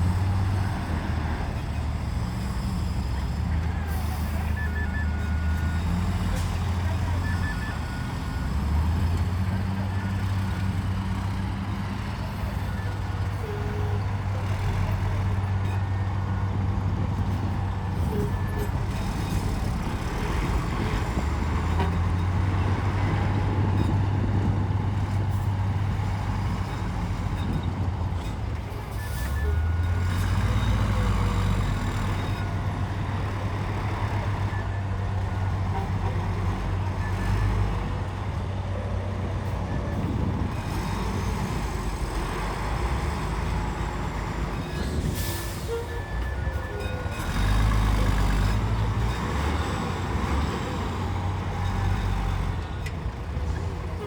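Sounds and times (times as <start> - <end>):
diesel earthmoving machinery: 0.0 - 54.0.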